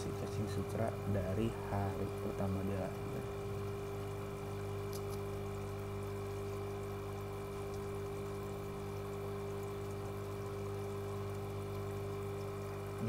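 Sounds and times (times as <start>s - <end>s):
aerator electric hum: 0.0s - 13.0s
water bubbling and trickling: 0.0s - 13.0s.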